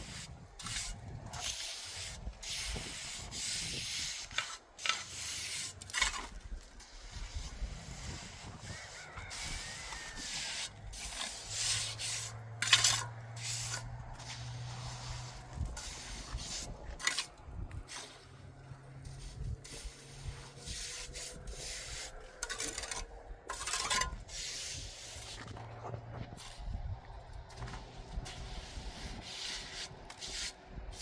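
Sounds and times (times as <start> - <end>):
scraping on hard surface: 0.1 - 26.8.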